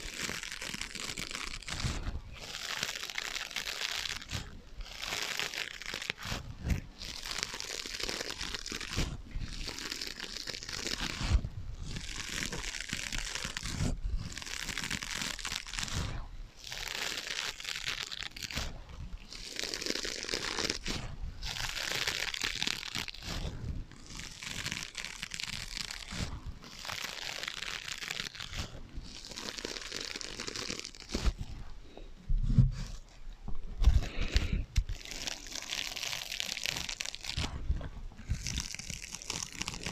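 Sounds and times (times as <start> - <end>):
scratching on sponges: 0.0 - 39.9.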